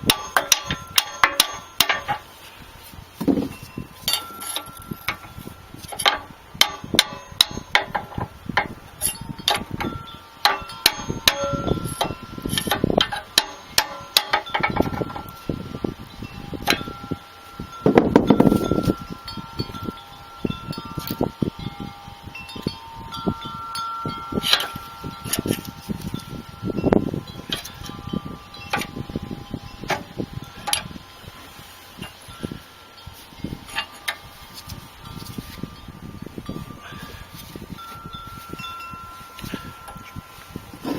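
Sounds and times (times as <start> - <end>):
metallic clinks and strikes: 0.0 - 40.9.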